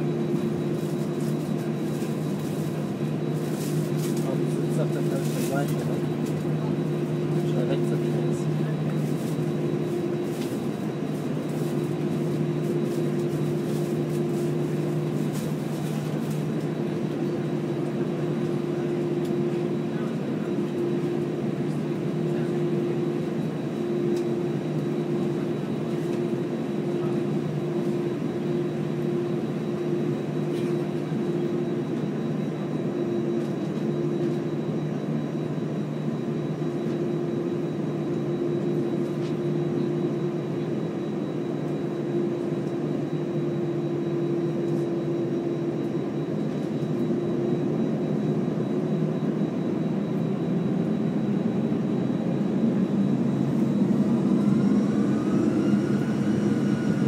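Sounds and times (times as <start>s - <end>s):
jet engine hum in cabin: 0.0s - 57.0s.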